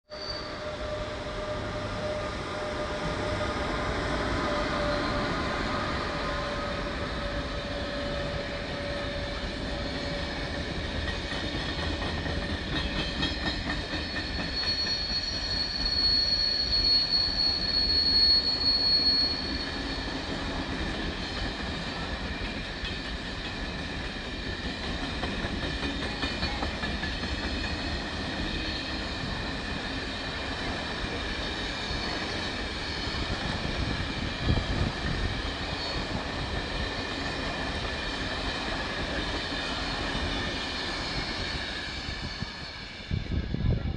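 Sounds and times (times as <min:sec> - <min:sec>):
high wheel squeal: 0:00.1 - 0:23.1, 0:25.8 - 0:43.4
locomotive whine: 0:00.1 - 0:43.9
train wheel clatter: 0:00.5 - 0:43.7.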